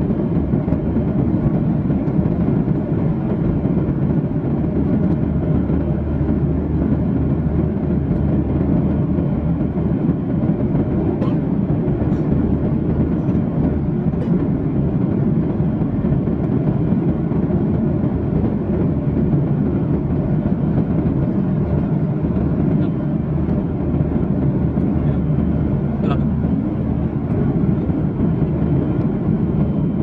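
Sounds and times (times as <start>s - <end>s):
airliner cabin engine rumble: 0.0s - 30.0s.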